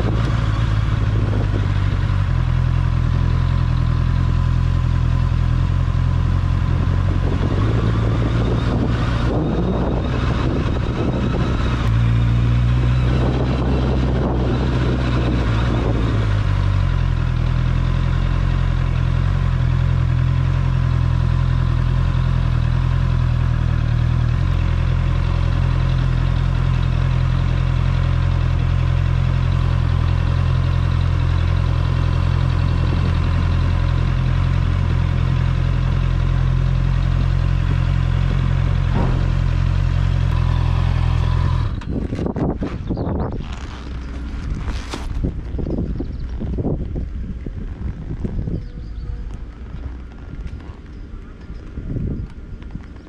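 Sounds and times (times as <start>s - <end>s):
motorcycle engine running at low revs: 0.0s - 53.0s.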